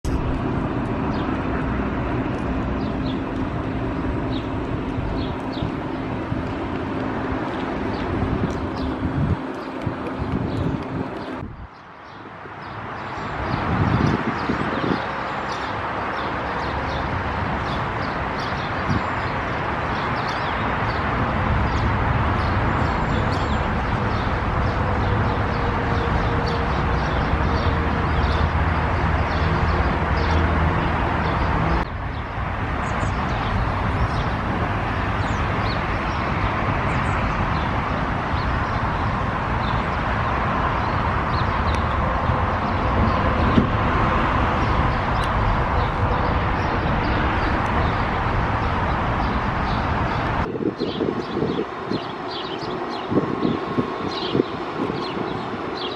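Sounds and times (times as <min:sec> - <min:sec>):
outdoor background noise: 0:00.0 - 0:55.9
birds chirping: 0:00.1 - 0:55.9.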